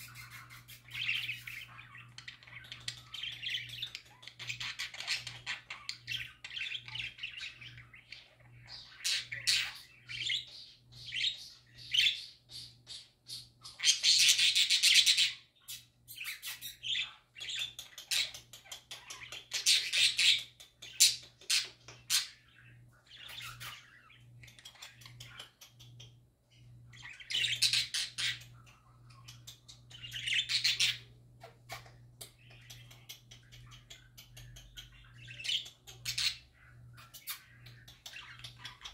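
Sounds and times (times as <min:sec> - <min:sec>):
budgerigars chirping and warbling: 0:00.0 - 0:38.9
faint low hum: 0:00.0 - 0:38.9.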